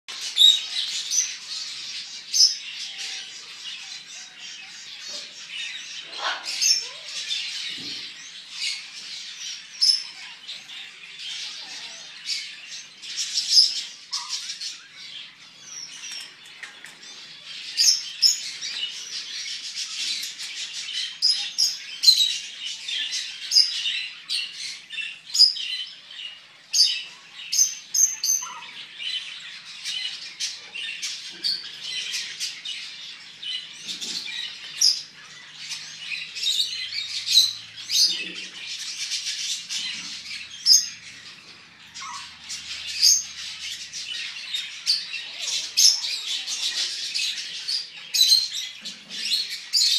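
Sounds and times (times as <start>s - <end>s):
birds chirping: 0.1s - 49.9s
sharp bird calls: 0.1s - 49.9s.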